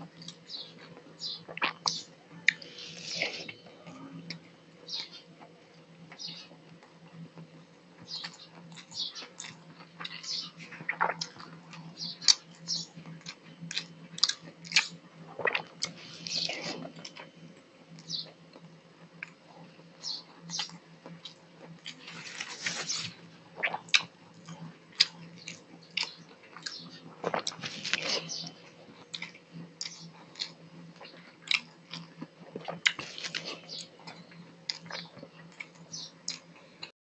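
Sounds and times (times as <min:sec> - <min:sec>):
faint low hum: 0:00.0 - 0:36.9
chewing and lip-smacking: 0:00.1 - 0:03.5, 0:08.2 - 0:17.3, 0:18.0 - 0:36.9.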